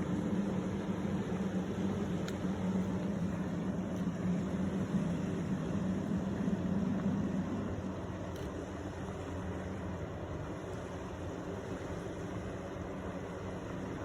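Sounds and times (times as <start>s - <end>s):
jet ski engine running: 0.0s - 14.0s
water rushing: 0.0s - 14.0s.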